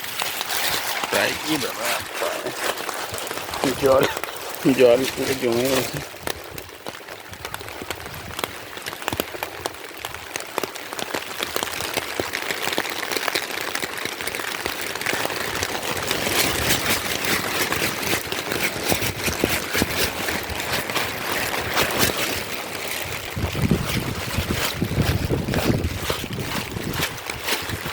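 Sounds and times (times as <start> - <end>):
heavy rain: 0.0 - 27.9
raindrops pattering close by: 0.0 - 27.9.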